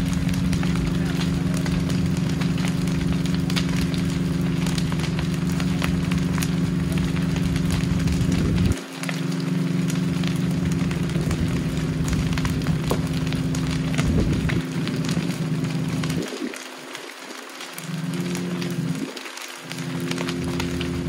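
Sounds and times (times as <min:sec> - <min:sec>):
fire crackling with sharp pops: 0:00.0 - 0:21.0
low machine hum: 0:00.0 - 0:21.0.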